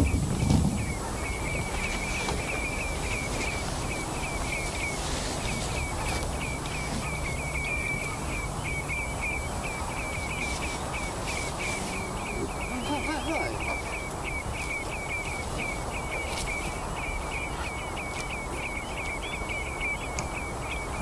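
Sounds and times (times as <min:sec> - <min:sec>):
bird chirping: 0:00.0 - 0:21.0
steady low rumble: 0:00.0 - 0:21.0.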